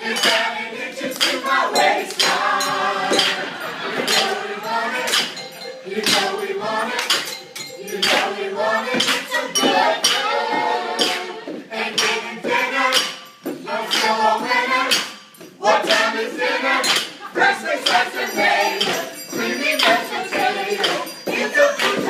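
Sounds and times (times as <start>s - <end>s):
group singing a pop song: 0.0s - 22.0s
kitchenware tapping a beat: 0.0s - 22.0s.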